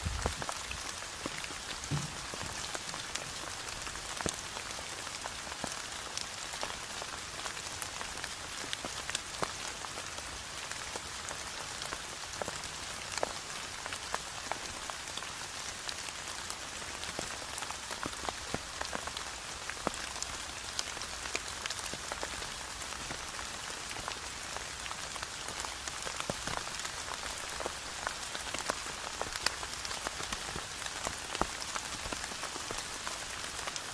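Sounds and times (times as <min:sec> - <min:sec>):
raindrops pattering on surfaces: 0:00.0 - 0:33.9
steady rain falling: 0:00.0 - 0:33.9.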